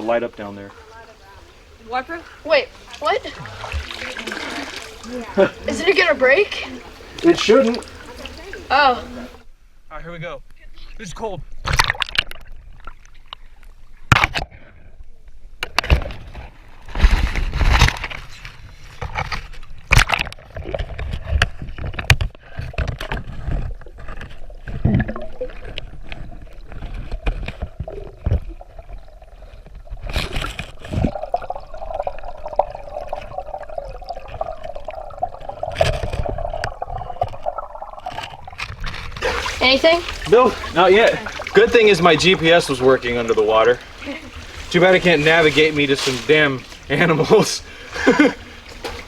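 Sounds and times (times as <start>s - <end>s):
underwater gurgling and sloshing: 0.7s - 9.4s, 16.0s - 49.0s.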